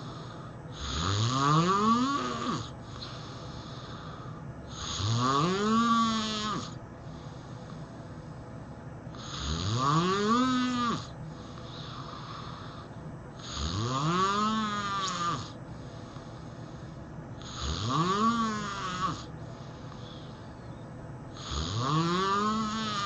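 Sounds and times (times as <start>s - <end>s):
person snoring: 0.0s - 6.8s, 9.1s - 20.5s, 21.3s - 23.0s.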